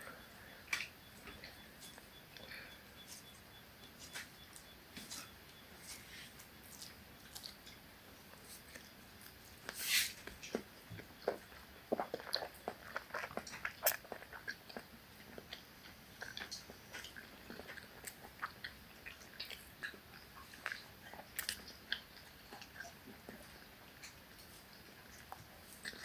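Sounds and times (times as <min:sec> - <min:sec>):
person chewing food: 0:00.1 - 0:26.0.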